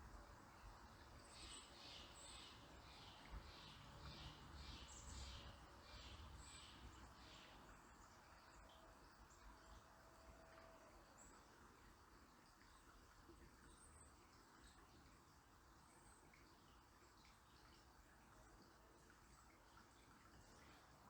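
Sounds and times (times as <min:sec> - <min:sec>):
river water running: 0:00.0 - 0:21.0.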